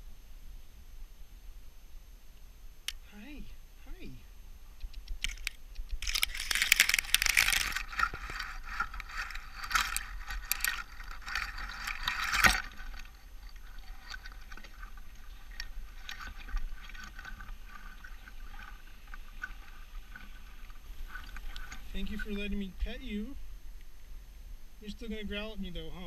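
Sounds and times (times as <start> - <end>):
branches and needles rustling: 0.0 - 26.0.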